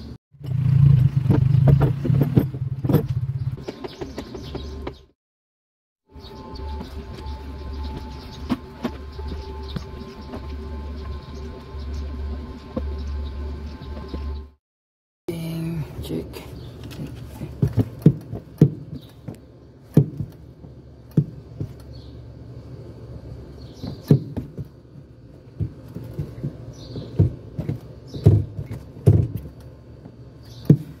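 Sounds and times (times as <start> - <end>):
accelerator pedal knocking: 0.4 - 5.1, 6.6 - 14.6, 16.8 - 22.1, 23.6 - 31.0.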